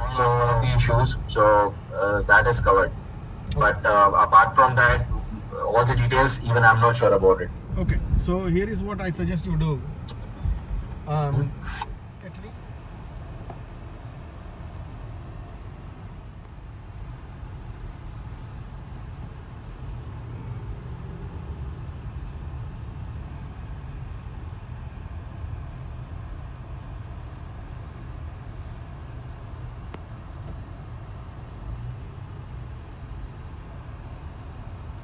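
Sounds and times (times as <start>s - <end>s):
car cabin low rumble: 0.0s - 35.0s.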